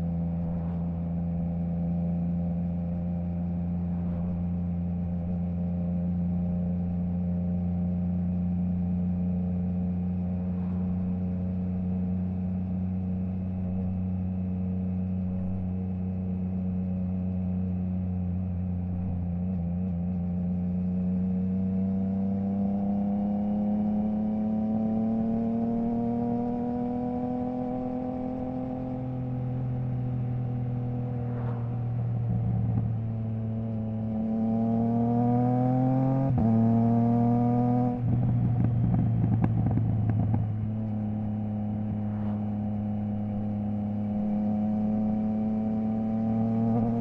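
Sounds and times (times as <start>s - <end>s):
motorcycle engine revving steadily: 0.0s - 47.0s.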